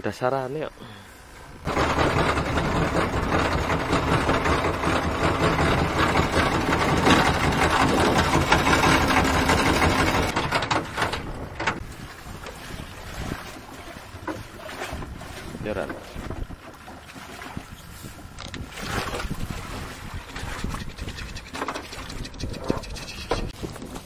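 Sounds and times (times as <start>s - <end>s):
wind: 0.0s - 24.0s
boat engine running: 0.2s - 24.0s
water noise: 0.6s - 24.0s.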